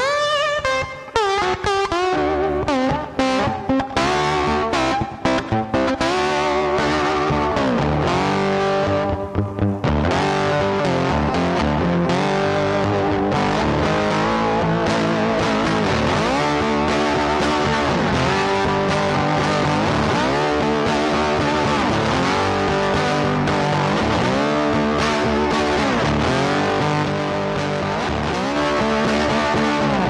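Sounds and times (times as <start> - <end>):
distorted electric guitar: 0.0 - 30.0
bass line: 1.4 - 30.0.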